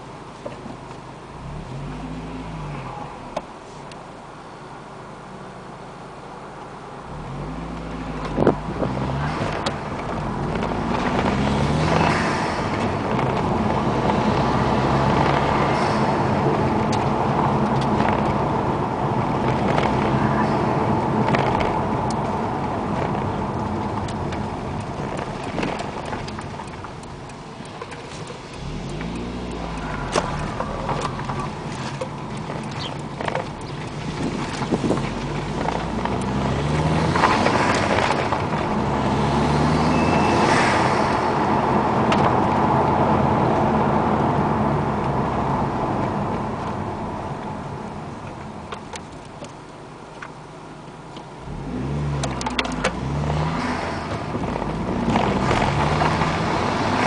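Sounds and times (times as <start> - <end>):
car engine from inside cabin: 0.0 - 57.0
tyre and road noise: 0.0 - 57.0.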